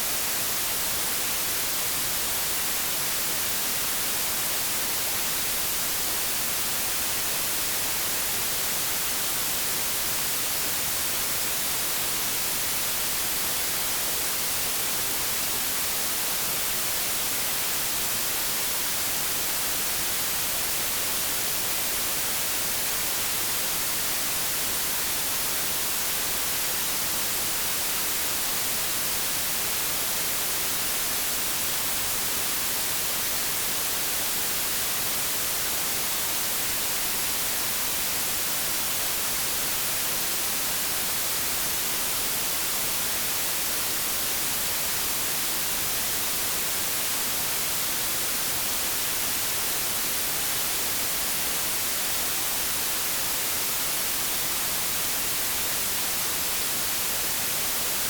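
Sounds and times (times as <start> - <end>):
white-noise static hiss: 0.0 - 58.0.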